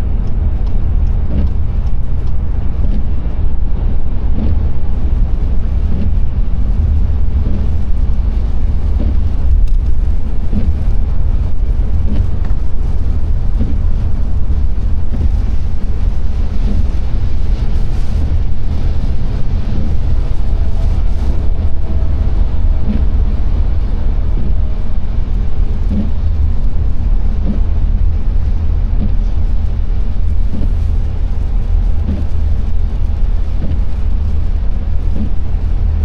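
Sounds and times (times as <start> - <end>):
car engine and tyres rumbling: 0.0 - 36.0
tyres hissing on wet road: 0.1 - 36.0.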